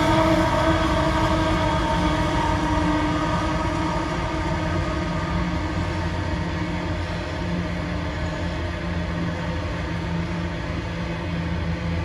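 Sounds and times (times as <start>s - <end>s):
low hum: 0.0s - 12.0s
wagon wheels rumbling on rail: 0.0s - 12.0s.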